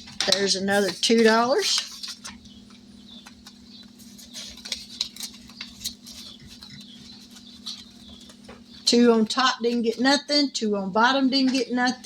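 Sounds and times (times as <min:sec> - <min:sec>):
hands handling paper: 0:00.0 - 0:10.2.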